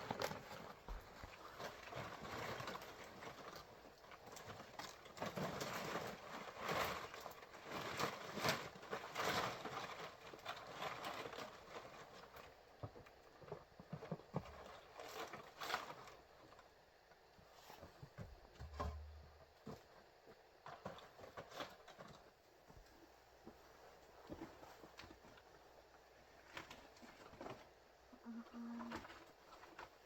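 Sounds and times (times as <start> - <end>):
scraping and rustling: 0.0 - 16.8, 17.4 - 30.0.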